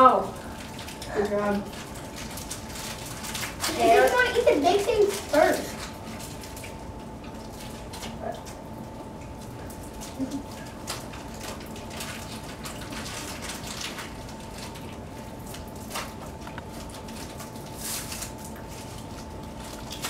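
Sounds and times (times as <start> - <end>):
candy wrappers crinkling: 0.0 - 8.6, 9.2 - 20.0.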